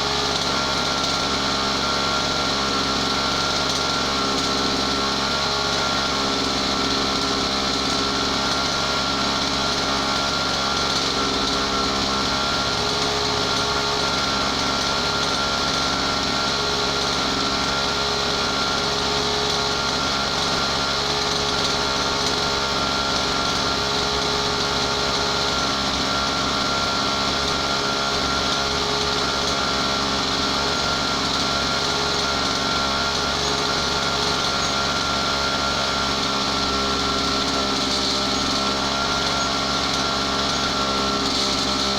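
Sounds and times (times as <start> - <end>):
brushcutter engine running: 0.0 - 41.9.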